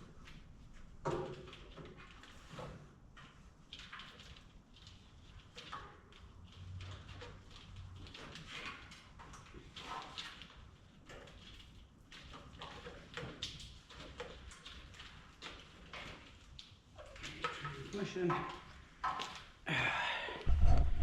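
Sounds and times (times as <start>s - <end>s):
clicks rustles and taps: 0.2s - 19.6s.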